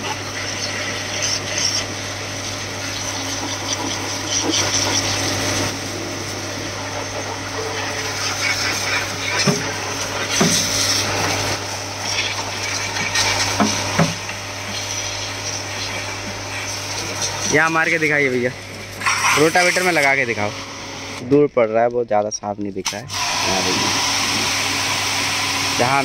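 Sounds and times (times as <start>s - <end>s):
water jet hissing: 0.0s - 21.2s
pressure washer pump humming: 0.0s - 21.4s, 22.8s - 26.0s.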